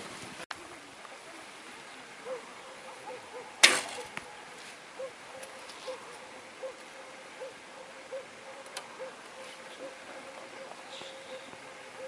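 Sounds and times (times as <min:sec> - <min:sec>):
bird hooting: 0:02.2 - 0:12.0.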